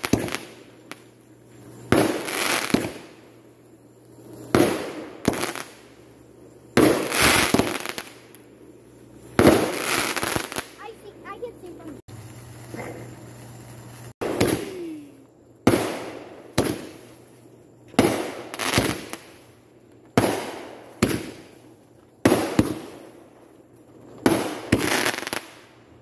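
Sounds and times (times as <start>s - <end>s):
fireworks exploding with echo: 0.0s - 3.4s, 4.2s - 8.4s, 9.2s - 23.3s, 24.2s - 25.8s.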